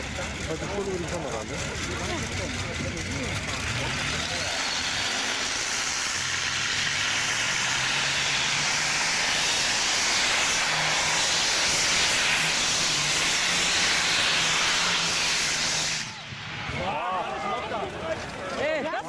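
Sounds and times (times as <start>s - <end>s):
tractor engine at full power: 0.0s - 19.0s.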